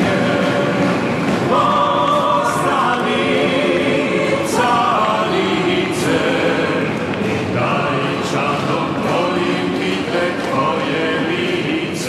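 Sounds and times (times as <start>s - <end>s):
choir singing held notes: 0.0s - 12.0s.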